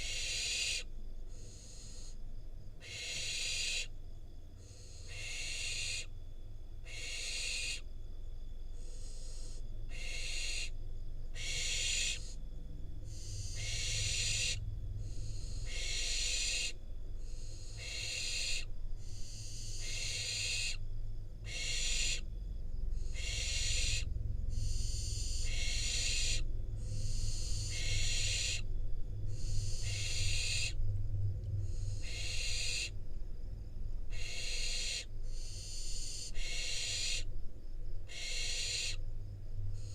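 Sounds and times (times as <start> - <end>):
low steady rumble: 7.9 - 39.9.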